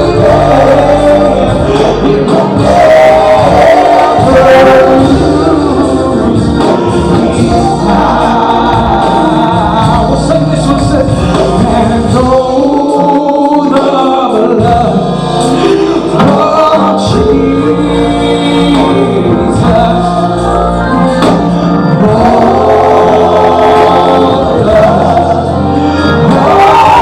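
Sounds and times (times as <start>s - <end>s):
backing voices singing: 0.0s - 27.0s
band accompaniment: 0.0s - 27.0s
man singing lead: 0.0s - 27.0s.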